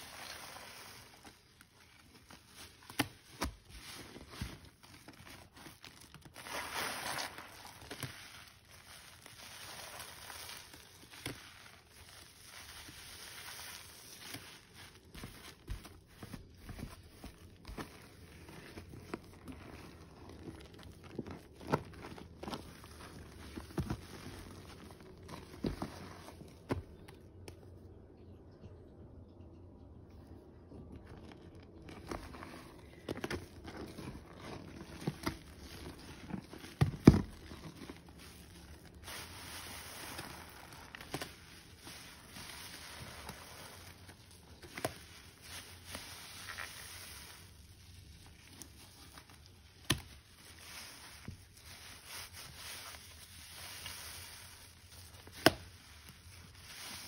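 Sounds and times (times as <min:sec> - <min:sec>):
foam crackling: 0:00.0 - 0:25.9, 0:32.0 - 0:57.0
soapy sponge squelching: 0:00.0 - 0:26.2, 0:33.0 - 0:57.0.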